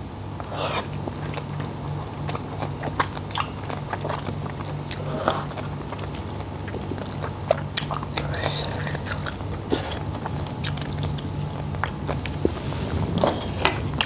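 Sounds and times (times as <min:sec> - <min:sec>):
low steady hum: 0:00.0 - 0:14.0
close-miked chewing: 0:00.4 - 0:14.0.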